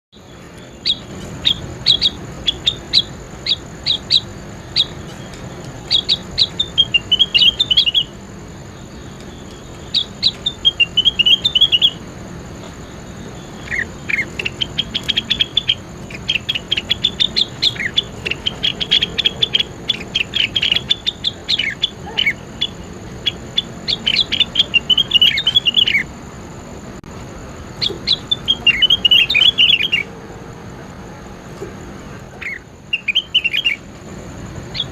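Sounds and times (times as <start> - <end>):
bird singing sharp chirps: 0.1 - 26.1, 27.7 - 30.2, 32.2 - 33.9, 34.5 - 34.9.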